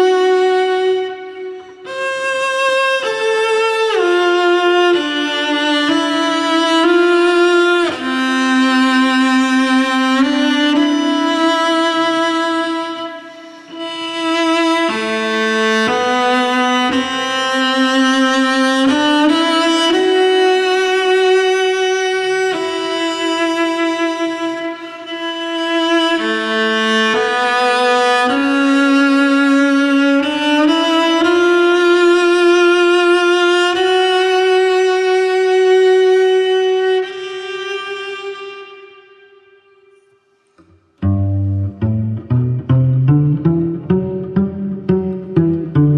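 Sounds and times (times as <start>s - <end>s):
slow cello melody: 0.0s - 45.9s.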